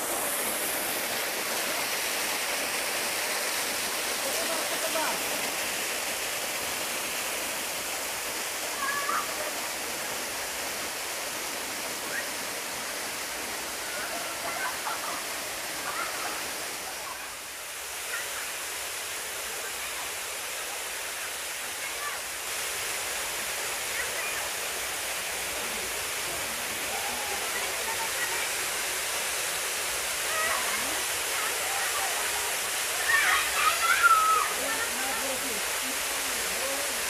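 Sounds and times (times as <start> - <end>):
waterfall splashing onto rocks: 0.0 - 37.0.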